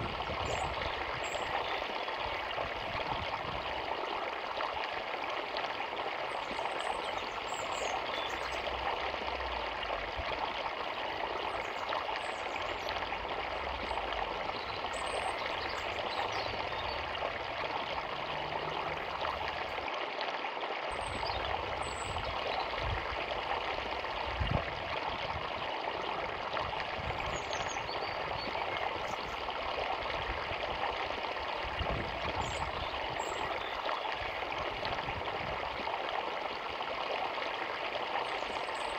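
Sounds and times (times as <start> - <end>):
river water rushing: 3.5 - 38.9.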